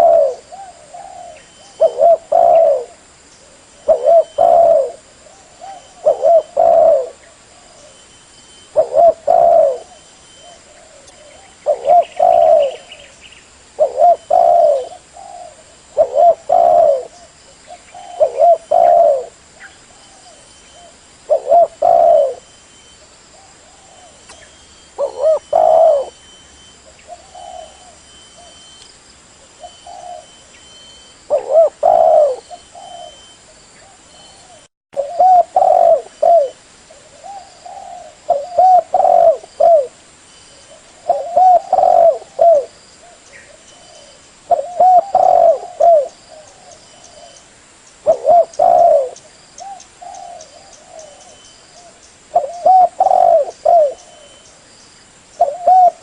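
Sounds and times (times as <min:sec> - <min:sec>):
dove cooing: 0:00.0 - 0:13.2, 0:13.8 - 0:22.6, 0:23.4 - 0:28.8, 0:29.4 - 0:47.4, 0:48.0 - 0:54.5, 0:55.3 - 0:56.0.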